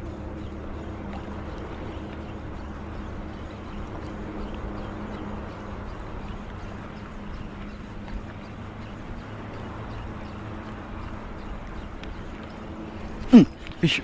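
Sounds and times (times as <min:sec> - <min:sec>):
steady low hum: 0:00.0 - 0:14.0
waves lapping against boat hull: 0:00.0 - 0:14.0.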